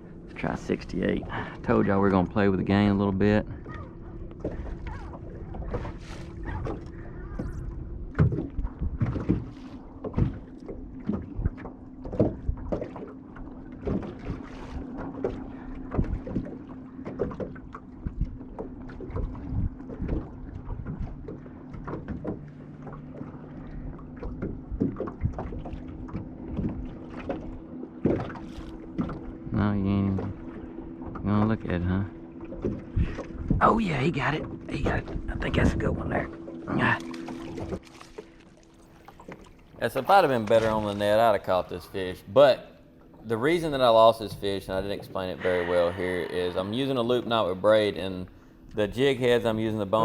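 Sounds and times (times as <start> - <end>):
low motor hum: 0.0 - 50.0
waves slapping boat hull: 0.0 - 50.0.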